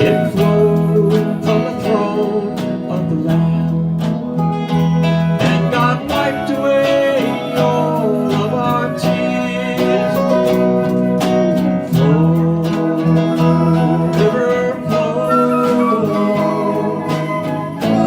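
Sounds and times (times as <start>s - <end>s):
gliding lead melody: 0.0s - 18.0s
strummed acoustic guitar: 0.0s - 18.0s.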